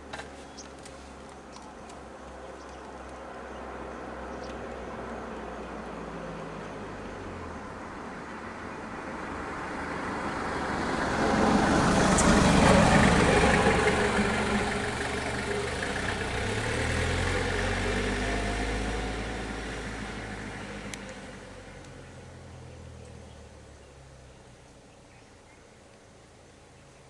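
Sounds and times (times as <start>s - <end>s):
vehicle engine passing: 2.2s - 25.1s.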